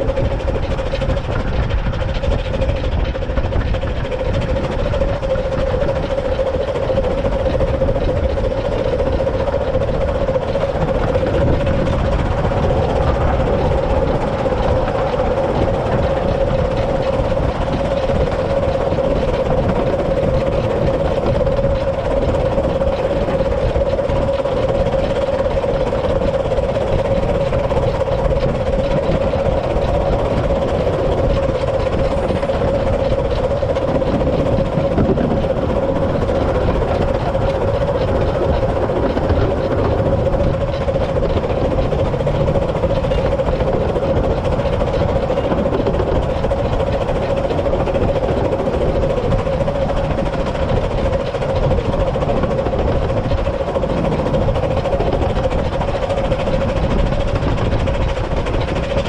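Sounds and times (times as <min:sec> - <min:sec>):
constant humming tone: 0:00.0 - 0:59.0
steam locomotive running: 0:00.0 - 0:59.0.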